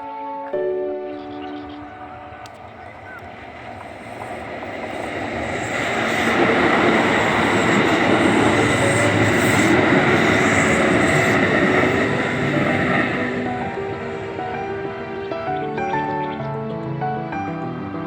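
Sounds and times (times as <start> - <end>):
train passing at speed: 1.0 - 18.0.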